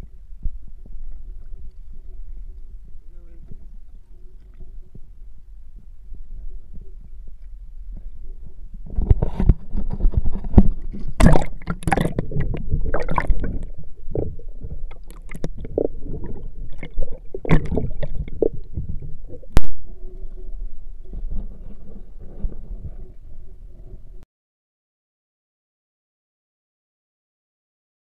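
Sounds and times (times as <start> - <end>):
water splashing and gurgling: 0.0 - 24.0.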